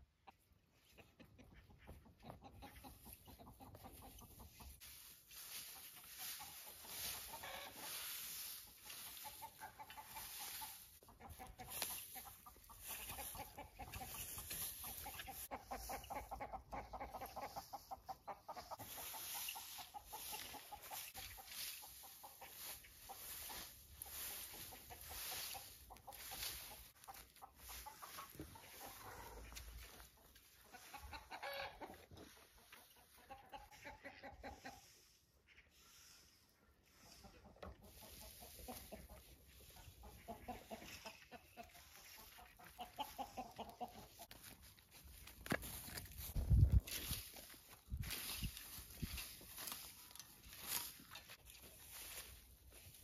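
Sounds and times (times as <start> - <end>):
hens clucking: 0.0 - 53.0
rake rustling through dry straw: 2.9 - 33.6, 35.7 - 53.0.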